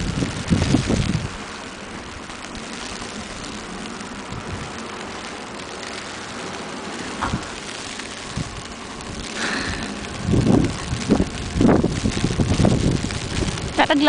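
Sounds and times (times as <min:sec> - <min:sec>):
steady outdoor rushing noise: 0:00.0 - 0:14.0
wind buffeting microphone: 0:00.0 - 0:14.0.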